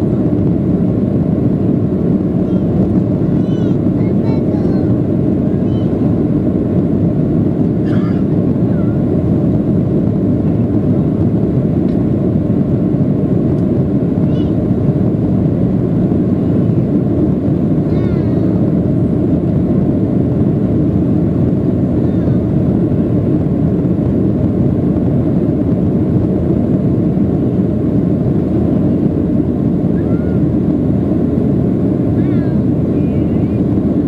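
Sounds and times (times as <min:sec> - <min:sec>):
jet engine and airflow noise in cabin: 0:00.0 - 0:34.0.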